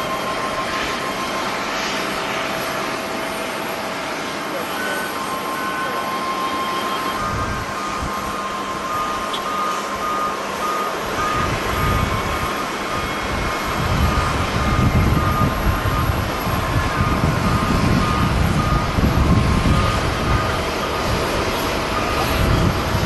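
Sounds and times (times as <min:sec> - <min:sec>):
reversing alarm beeping: 0:00.0 - 0:23.0.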